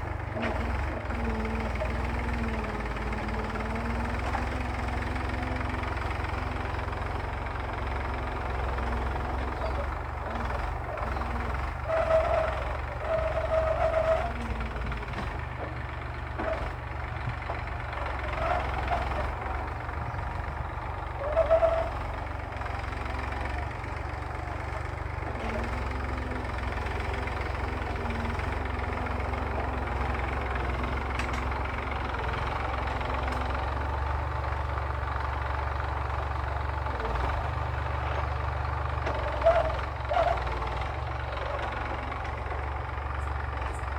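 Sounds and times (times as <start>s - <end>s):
tractor engine droning: 0.0s - 43.9s.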